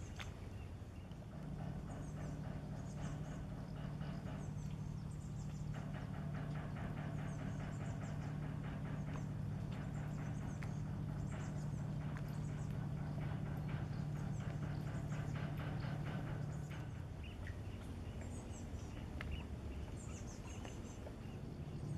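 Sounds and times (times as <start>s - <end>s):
small birds chirping: 0.0s - 21.9s
diesel engine droning: 1.1s - 21.9s.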